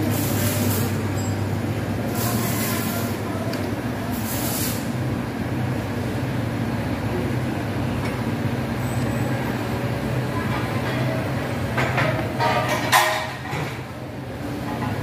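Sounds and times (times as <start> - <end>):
low mechanical motor hum: 0.0 - 15.0.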